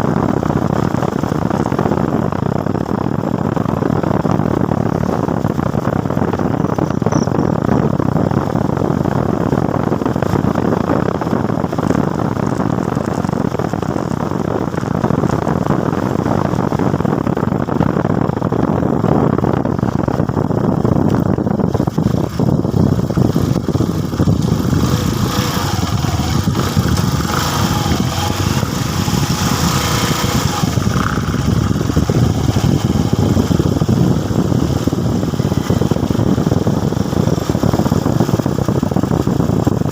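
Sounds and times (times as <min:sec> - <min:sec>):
motorcycle riding rushing noise: 0:00.0 - 0:39.9.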